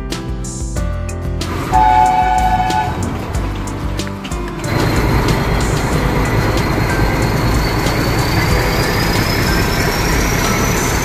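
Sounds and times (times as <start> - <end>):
train carriages rumbling on track: 1.5 - 11.0.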